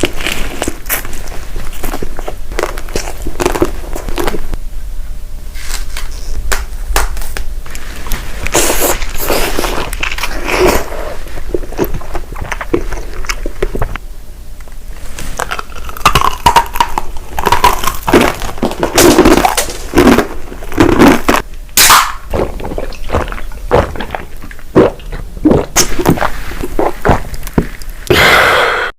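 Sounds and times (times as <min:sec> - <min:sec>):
crunchy chewing: 0:00.0 - 0:04.6, 0:07.2 - 0:14.0, 0:14.6 - 0:28.1.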